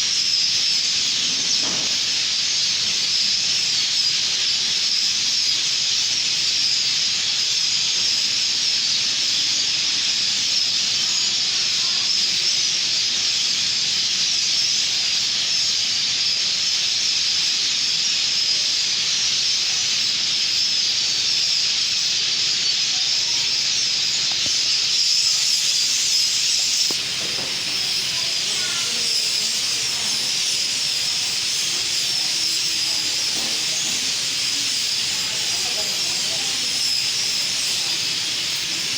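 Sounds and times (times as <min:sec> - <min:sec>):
flock of birds chattering: 0:00.0 - 0:38.9.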